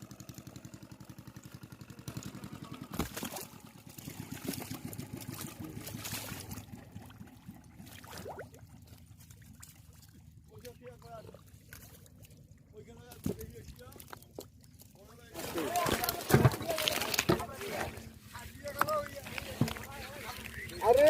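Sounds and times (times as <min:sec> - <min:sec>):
small engine chugging: 0:00.0 - 0:21.0
water splashing and trickling: 0:00.0 - 0:21.0.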